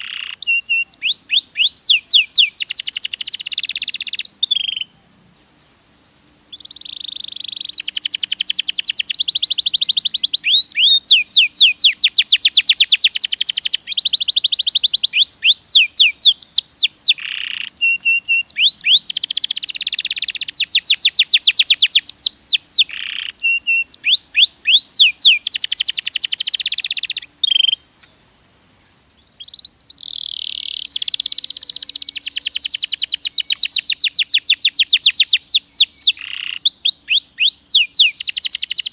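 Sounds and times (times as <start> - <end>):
canary singing rapid trills: 0.0 - 4.9, 6.5 - 27.9, 29.4 - 38.9.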